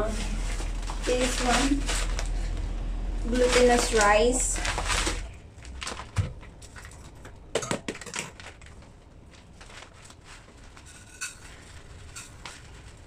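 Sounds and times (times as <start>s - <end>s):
rice and packaging rustling: 0.0s - 13.0s.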